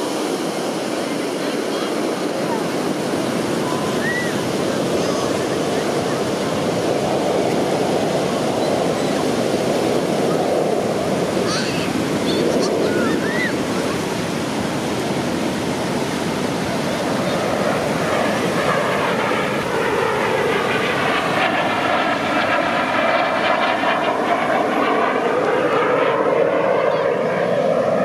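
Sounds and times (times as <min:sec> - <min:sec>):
surf washing onto beach: 0:00.0 - 0:24.0
airplane engine drone: 0:00.0 - 0:28.0.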